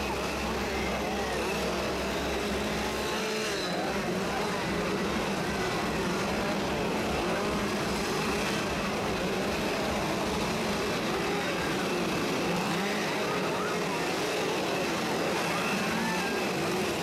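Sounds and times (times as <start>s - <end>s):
chainsaws revving: 0.0s - 17.0s.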